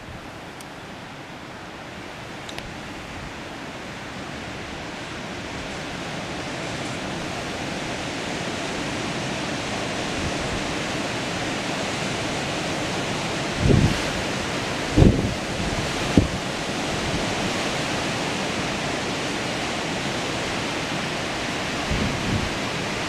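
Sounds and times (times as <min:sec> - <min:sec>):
wind rushing through trees: 0:00.0 - 0:23.0
wind buffeting microphone: 0:02.4 - 0:23.0.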